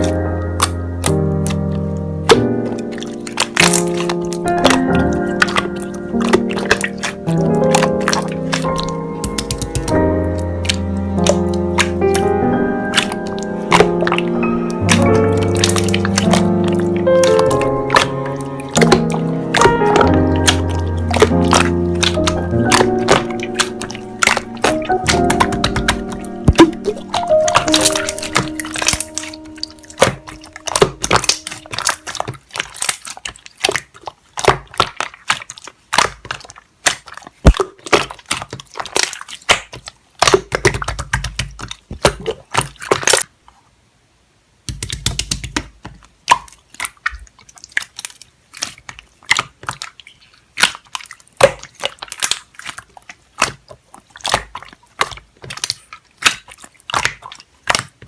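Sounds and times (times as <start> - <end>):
slime squished by hand: 0.0 - 43.3, 44.7 - 58.0.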